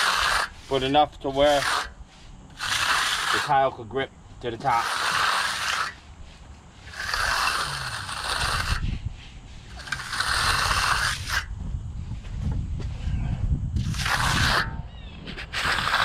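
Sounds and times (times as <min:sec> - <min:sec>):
steel trowel scraping concrete: 0:00.0 - 0:11.5, 0:13.8 - 0:16.0.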